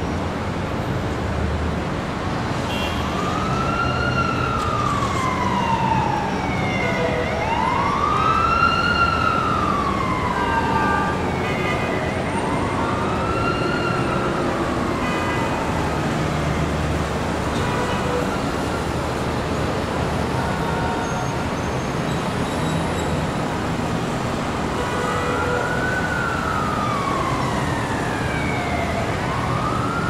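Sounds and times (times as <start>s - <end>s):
city traffic noise: 0.0s - 30.0s
emergency siren wailing: 3.0s - 21.6s, 23.3s - 30.0s.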